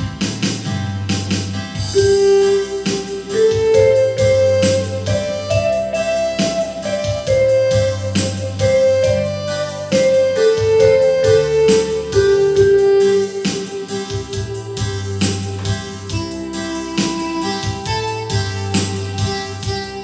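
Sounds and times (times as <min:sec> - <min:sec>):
accompaniment beat: 0:00.0 - 0:20.0
bass line: 0:00.0 - 0:20.0
electronic keyboard melody: 0:00.0 - 0:20.0.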